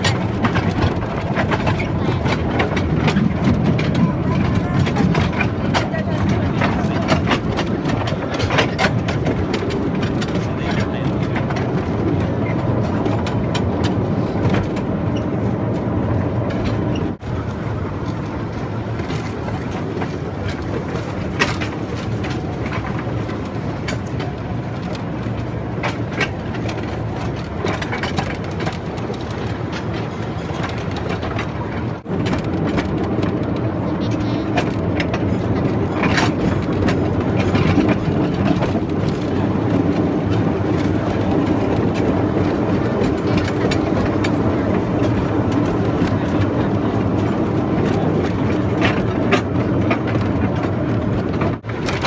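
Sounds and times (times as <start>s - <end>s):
clicks and clatter of cars: 0.0s - 52.0s
train rumbling on track: 0.0s - 52.0s.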